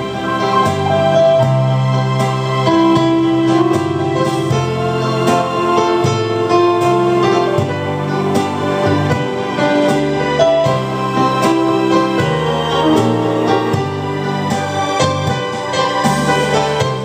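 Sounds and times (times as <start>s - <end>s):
piano chords and bass line: 0.0s - 17.0s.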